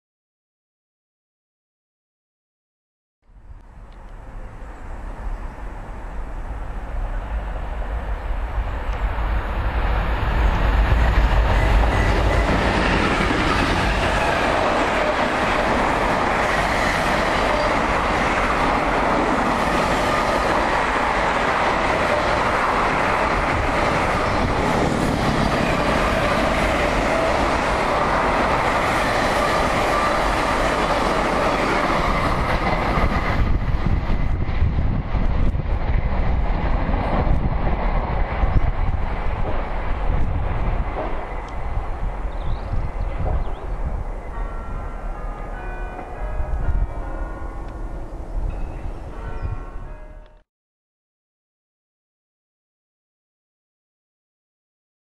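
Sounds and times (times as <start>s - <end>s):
diesel locomotives passing: 3.4s - 50.4s
train wagons rolling on rails: 3.7s - 50.4s.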